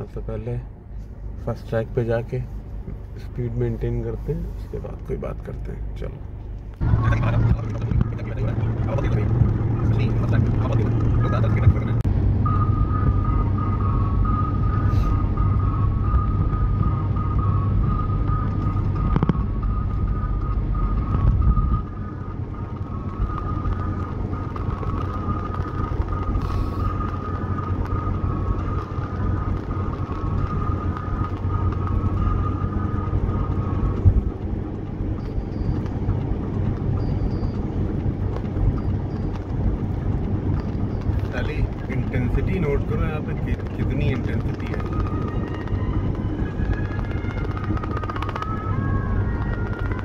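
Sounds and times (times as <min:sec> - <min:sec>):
car tyres and engine rumble: 0:00.0 - 0:50.0
thin steady whine: 0:00.0 - 0:50.0.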